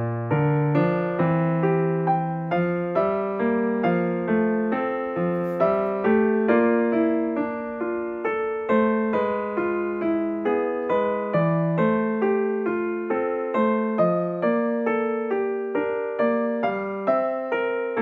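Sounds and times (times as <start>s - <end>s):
gentle piano tune: 0.0s - 18.0s.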